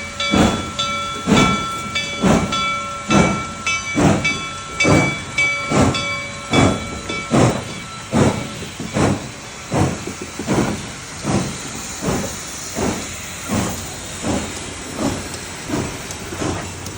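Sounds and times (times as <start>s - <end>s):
hiss of steam: 0.0s - 16.9s
steam locomotive chuffing: 0.0s - 16.9s.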